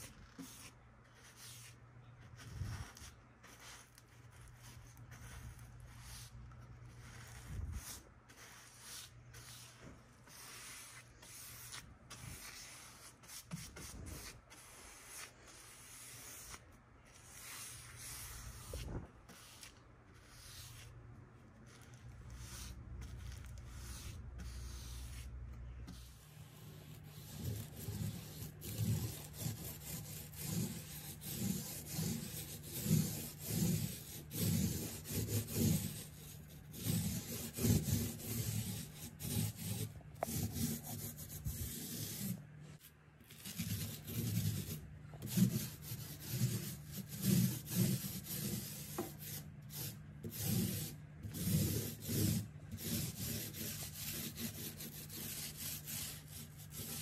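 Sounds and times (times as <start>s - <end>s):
paint roller rubbing: 0.0s - 21.0s, 21.7s - 25.3s, 25.9s - 57.0s.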